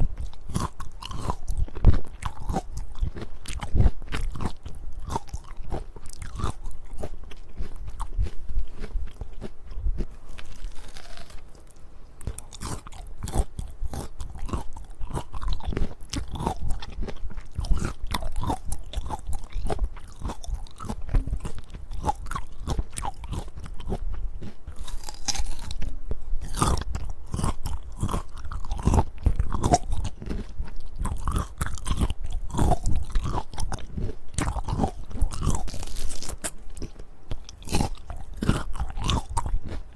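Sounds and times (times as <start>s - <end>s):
crunching and chewing fruit: 0.0s - 39.9s.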